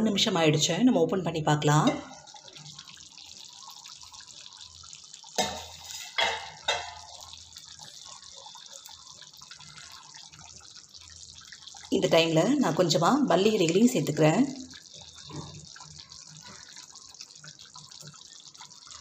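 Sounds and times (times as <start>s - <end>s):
gravy bubbling: 0.0s - 19.0s.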